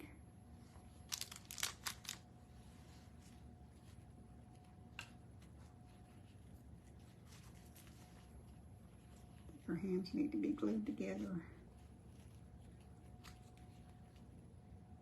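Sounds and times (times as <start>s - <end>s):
rustling of craft materials: 0.6s - 14.6s.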